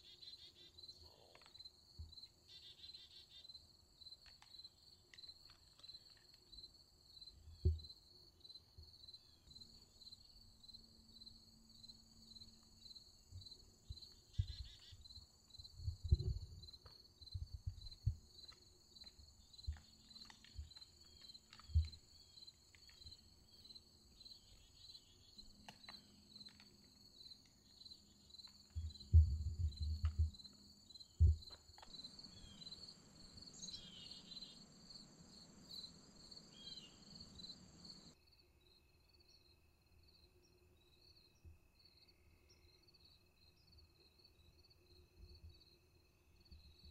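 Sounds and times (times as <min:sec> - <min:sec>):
insects chirping: 0:00.0 - 0:39.5.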